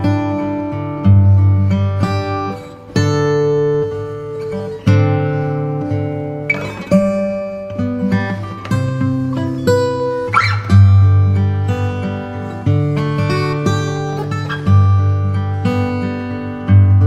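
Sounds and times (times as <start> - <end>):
strummed acoustic guitar chords: 0.0 - 17.0.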